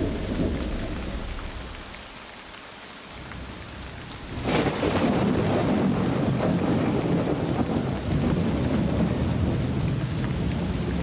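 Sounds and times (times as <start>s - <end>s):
thunder crack and rumble: 0.0s - 2.2s, 3.3s - 11.0s
rain hissing: 0.0s - 11.0s.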